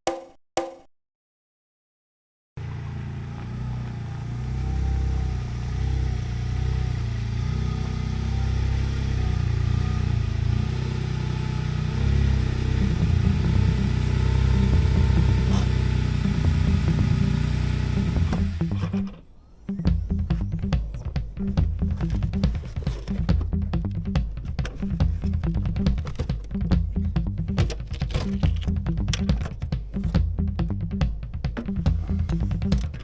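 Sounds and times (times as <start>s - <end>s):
car engine running: 2.6s - 33.0s.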